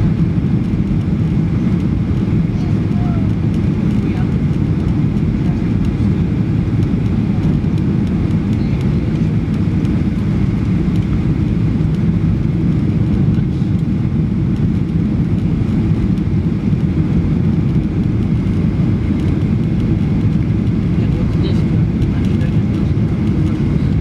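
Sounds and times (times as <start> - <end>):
airflow over wing: 0.0 - 24.0
airplane cabin engine noise: 0.0 - 24.0.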